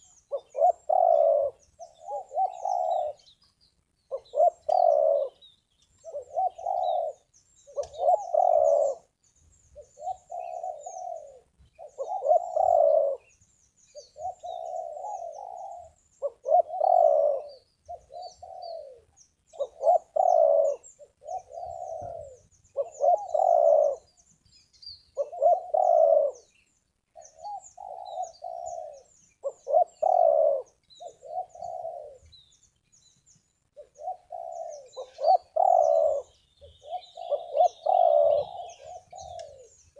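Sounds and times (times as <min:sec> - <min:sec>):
doves cooing: 0:00.0 - 0:03.4, 0:04.1 - 0:09.2, 0:09.8 - 0:24.2, 0:25.1 - 0:32.5, 0:33.7 - 0:39.9
small birds chirping: 0:00.0 - 0:39.9.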